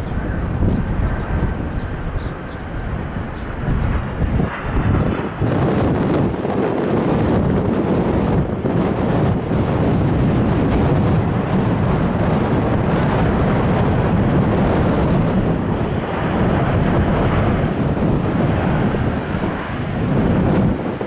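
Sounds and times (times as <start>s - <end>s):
jet aircraft roar: 0.0s - 21.0s
wind buffeting microphone: 0.0s - 21.0s.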